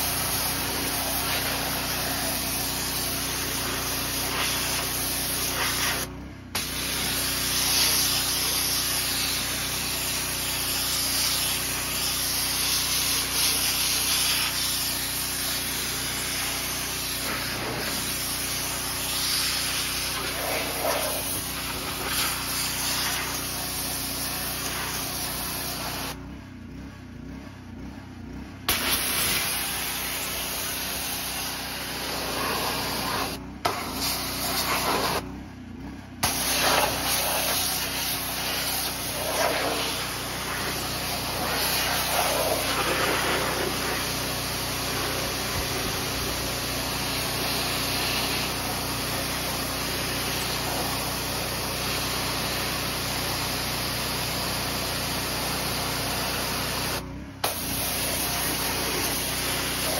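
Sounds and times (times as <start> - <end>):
pressure washer spraying water: 0.0 - 26.2, 28.7 - 35.3, 36.2 - 59.9.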